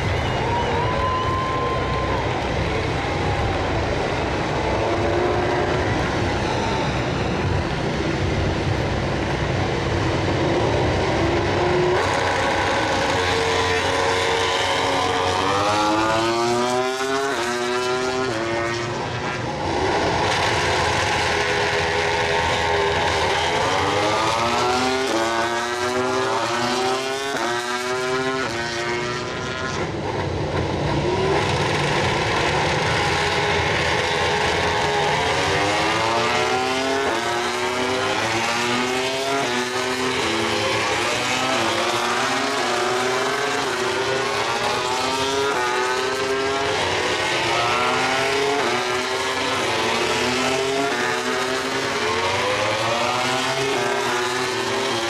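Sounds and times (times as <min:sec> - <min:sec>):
racing motorcycles accelerating: 0:00.0 - 0:55.0.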